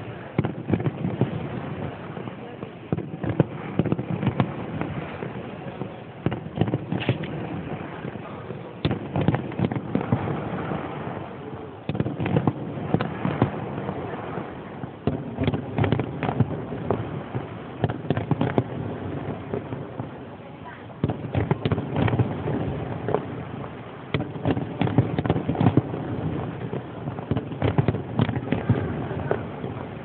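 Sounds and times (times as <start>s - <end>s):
background rumble: 0.0s - 30.0s
fireworks bursting: 0.0s - 30.0s.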